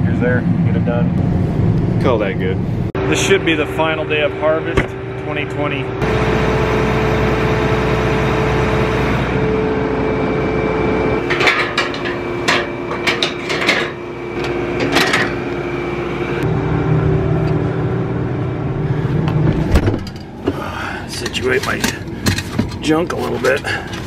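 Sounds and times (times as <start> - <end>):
combine harvester humming: 0.0 - 24.0.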